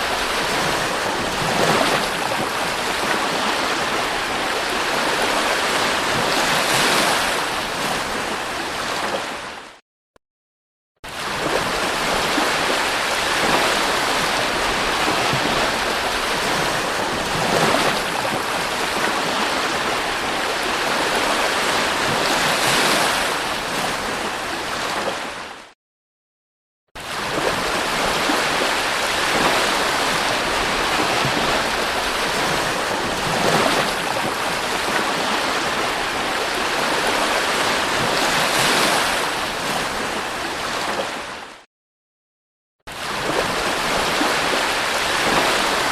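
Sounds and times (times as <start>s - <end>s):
sea waves breaking on shore: 0.0s - 9.8s, 11.1s - 25.8s, 27.0s - 41.7s, 42.9s - 45.9s.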